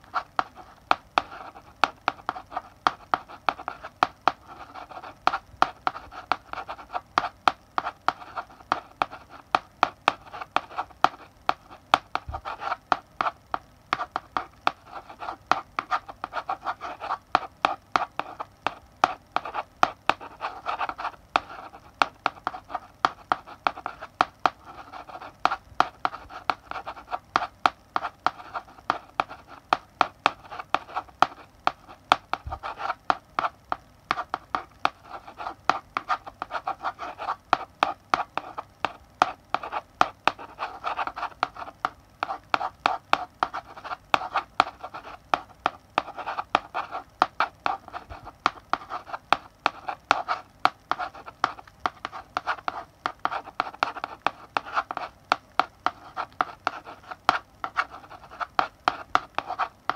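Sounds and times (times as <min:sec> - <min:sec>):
chalk scratching on blackboard: 0:00.0 - 0:59.9
chalk tapping on blackboard: 0:00.0 - 0:59.9.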